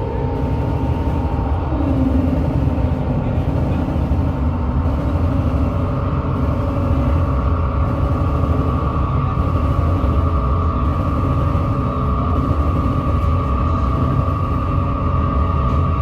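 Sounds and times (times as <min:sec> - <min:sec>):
dense low rumble: 0:00.0 - 0:16.0
sustained droning tones: 0:00.0 - 0:16.0.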